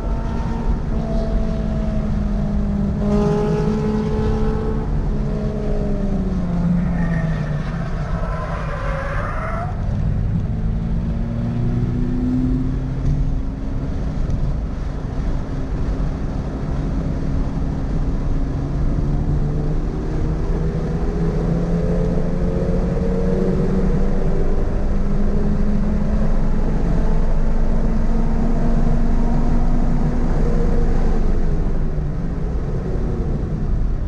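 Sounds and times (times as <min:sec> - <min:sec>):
car engine running hard: 0:00.0 - 0:34.0.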